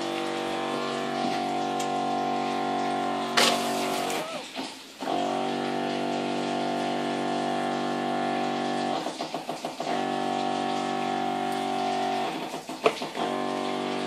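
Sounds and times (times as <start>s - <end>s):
small electric pump humming: 0.0s - 14.0s.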